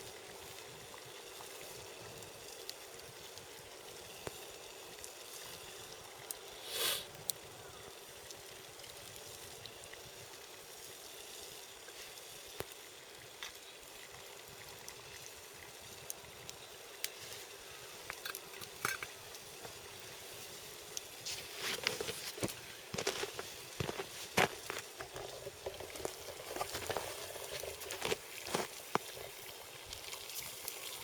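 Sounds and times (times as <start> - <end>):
campfire crackling and popping: 0.0 - 31.0
steady hiss: 0.0 - 31.0.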